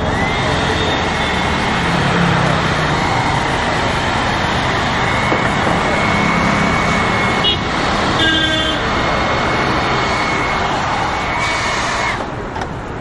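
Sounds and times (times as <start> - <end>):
hair dryer blowing: 0.0 - 12.4.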